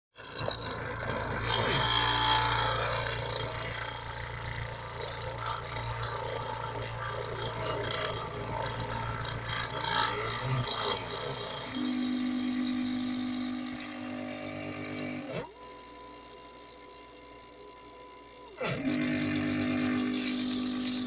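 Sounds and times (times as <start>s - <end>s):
small motor humming: 0.2s - 21.0s.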